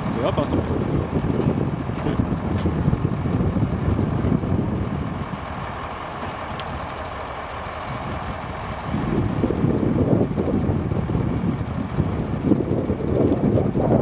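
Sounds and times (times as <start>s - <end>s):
truck engine running: 0.0s - 14.0s
wind buffeting microphone: 0.0s - 14.0s.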